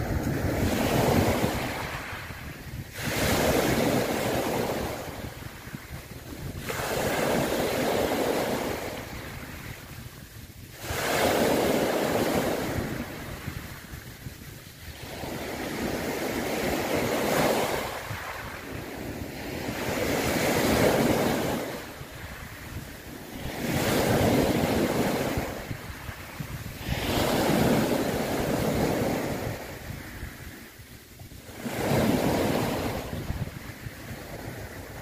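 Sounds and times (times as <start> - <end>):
sea waves washing in: 0.0 - 35.0.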